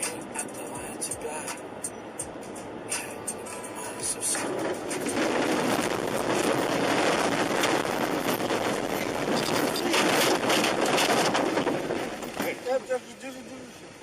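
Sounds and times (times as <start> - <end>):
vehicle road noise roar: 0.0 - 14.0.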